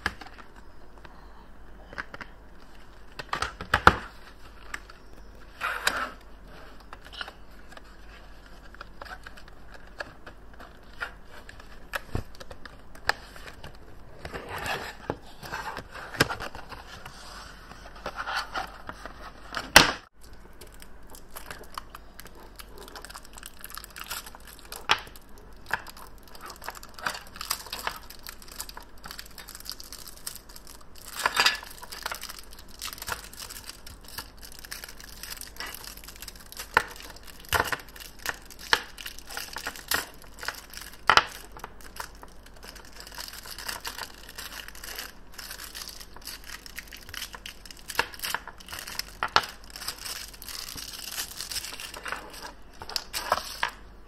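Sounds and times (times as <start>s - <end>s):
plastic wrapping crinkling and tearing: 2.0s - 53.8s.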